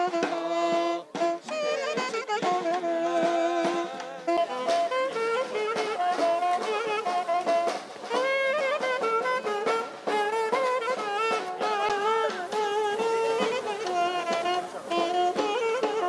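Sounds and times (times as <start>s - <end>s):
drum beating steady rhythm: 0.0s - 16.0s
reed wind instrument melody: 0.0s - 16.0s.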